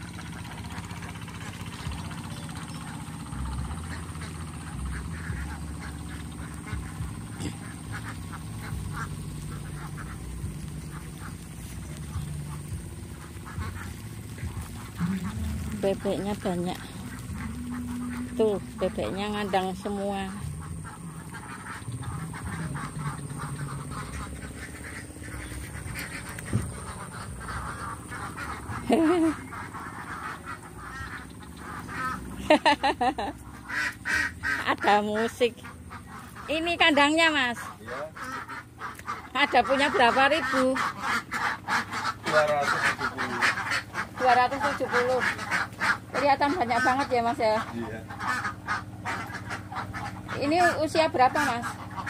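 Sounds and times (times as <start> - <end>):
ducks quacking: 0.0 - 52.0
low steady hum: 0.0 - 52.0.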